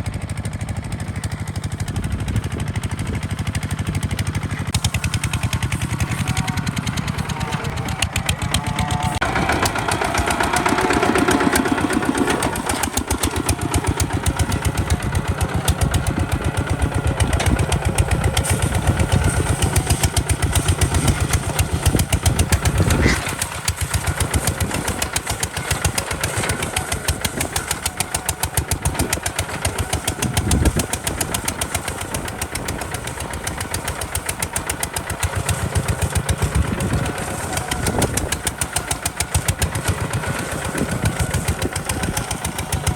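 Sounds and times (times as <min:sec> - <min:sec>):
diesel engine chugging: 0:00.0 - 0:42.9.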